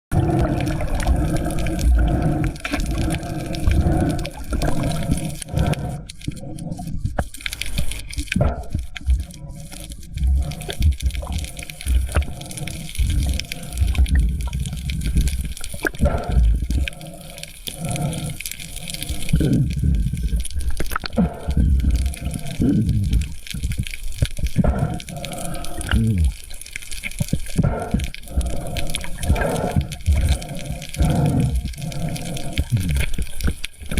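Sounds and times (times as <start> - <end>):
water sloshing and gurgling: 0.1 - 33.9.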